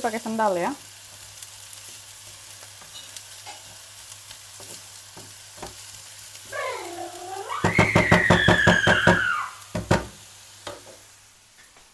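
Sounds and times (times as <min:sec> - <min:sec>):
food sizzling in a pan: 0:00.0 - 0:11.9.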